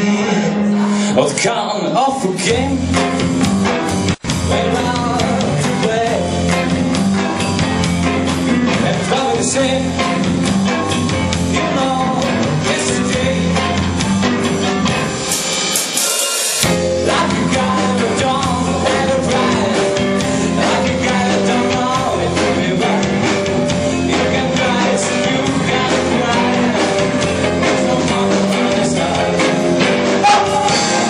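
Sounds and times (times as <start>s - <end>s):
drum kit: 2.2s - 31.0s
electric guitar: 2.7s - 31.0s
person singing: 4.2s - 7.4s, 8.2s - 15.0s, 15.7s - 31.0s.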